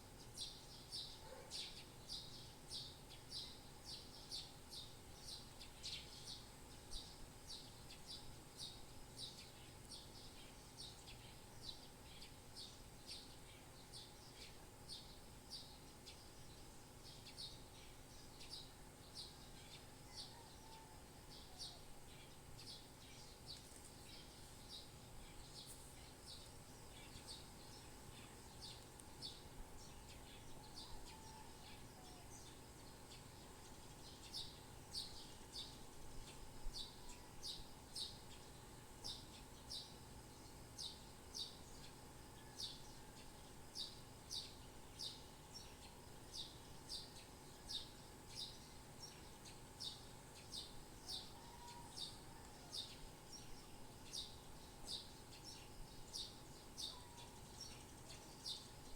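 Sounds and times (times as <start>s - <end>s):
faint steady hum: 0.0s - 58.9s
birds chirping: 0.2s - 43.2s, 43.8s - 58.9s.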